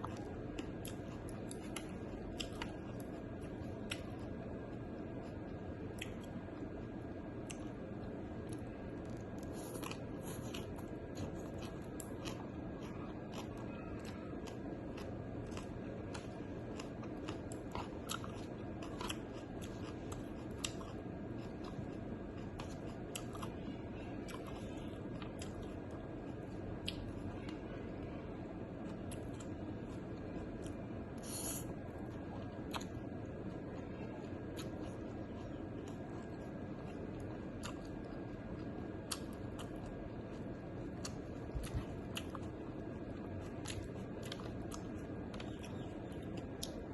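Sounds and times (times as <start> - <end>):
low background hum: 0.0 - 46.9
person chewing and eating: 0.0 - 46.9.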